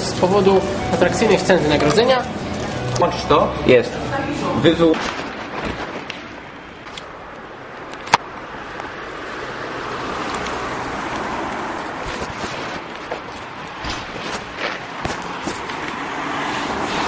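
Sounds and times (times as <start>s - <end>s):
car passing: 0.0s - 17.0s.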